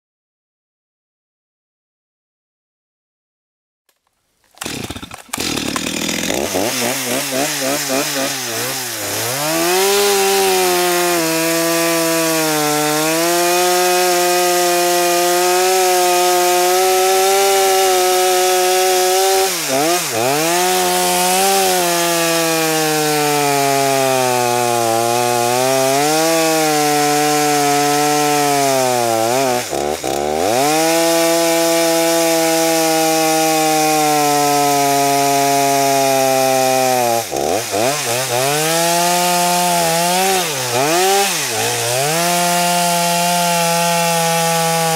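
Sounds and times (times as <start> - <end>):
chainsaw cutting wood: 3.9 - 44.9.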